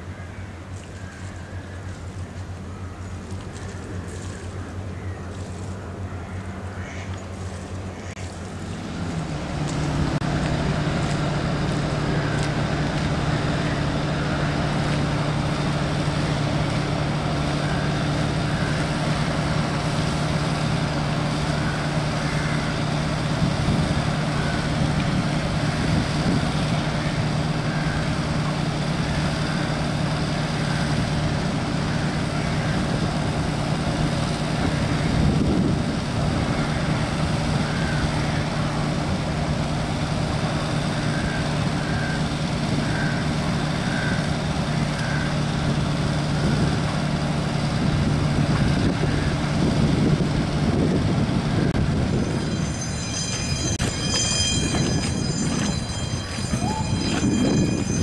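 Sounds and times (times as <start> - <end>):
engine humming steadily: 0.0 - 58.0.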